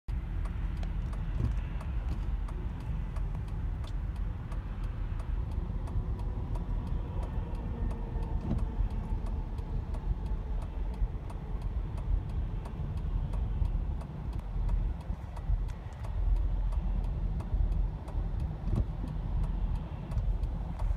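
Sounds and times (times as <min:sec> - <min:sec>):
car road rumble in traffic: 0:00.1 - 0:20.9
fast regular ticking: 0:00.2 - 0:20.9.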